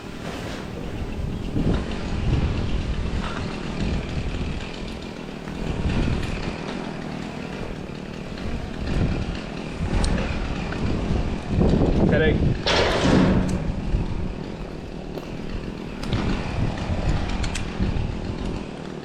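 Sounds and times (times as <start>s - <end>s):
chainsaw running and cutting: 1.5s - 19.0s.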